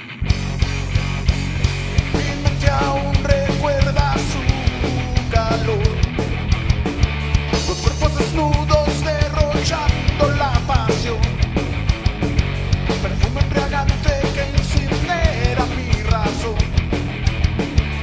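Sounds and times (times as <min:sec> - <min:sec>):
lead guitar with bent notes: 0:00.0 - 0:18.0
rock band playing: 0:00.0 - 0:18.0.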